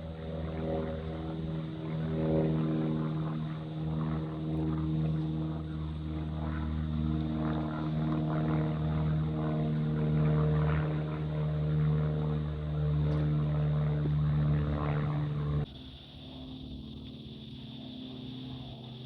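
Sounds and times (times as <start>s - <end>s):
propeller aircraft droning: 0.0s - 19.0s.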